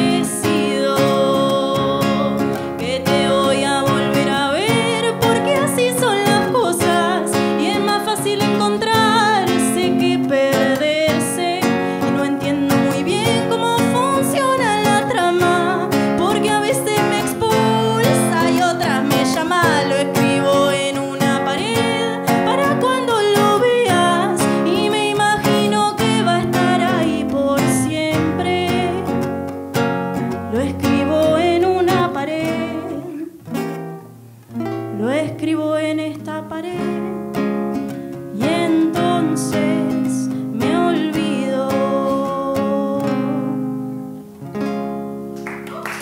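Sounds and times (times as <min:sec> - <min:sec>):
woman singing: 0:00.0 - 0:29.4, 0:30.2 - 0:33.6, 0:34.8 - 0:44.2, 0:45.5 - 0:46.0
nylon-string guitar picked and strummed: 0:00.0 - 0:46.0.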